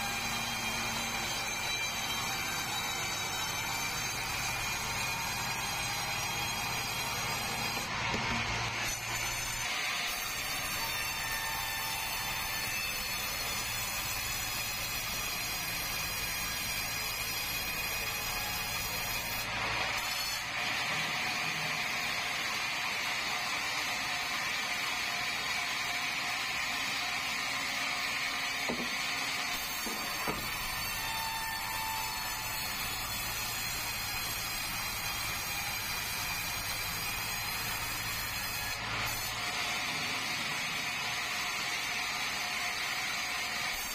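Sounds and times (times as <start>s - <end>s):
band saw cutting timber: 0.0s - 43.9s.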